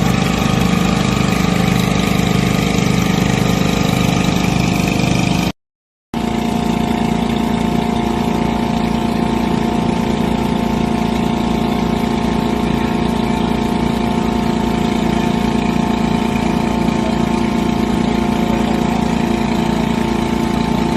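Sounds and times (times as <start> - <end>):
motor engine running steadily: 0.0 - 5.6, 6.2 - 20.9.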